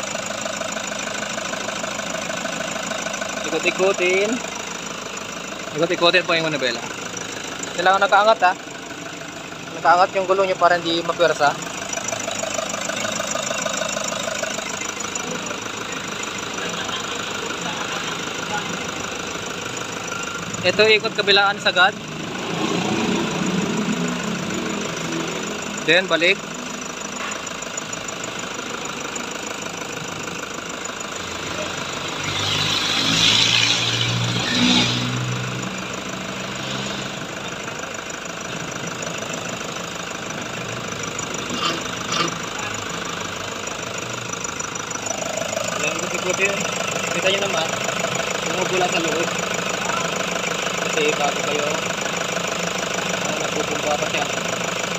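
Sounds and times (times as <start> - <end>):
engine idling: 0.0 - 54.9
power steering pump whining: 0.0 - 54.9.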